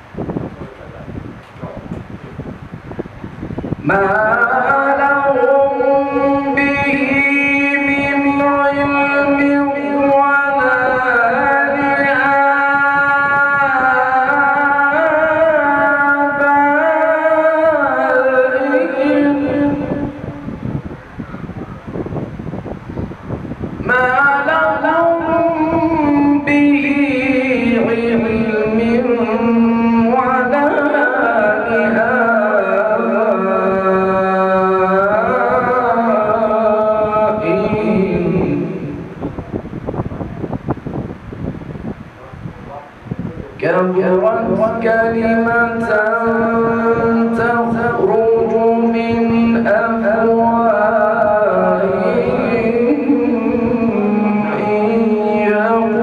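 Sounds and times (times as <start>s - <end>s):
man reciting melodically: 3.8s - 21.2s, 23.8s - 40.5s, 42.2s - 56.0s.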